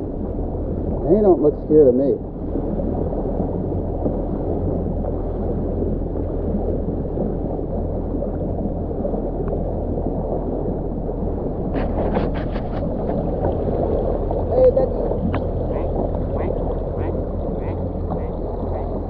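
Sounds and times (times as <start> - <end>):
water gurgling around hull: 0.0 - 19.0
watercraft engine running: 0.0 - 19.0.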